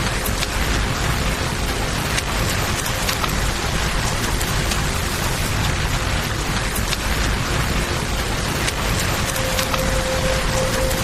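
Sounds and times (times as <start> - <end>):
campfire crackling: 0.0 - 11.0
river water flowing: 0.0 - 11.0
steady rain: 0.0 - 11.0.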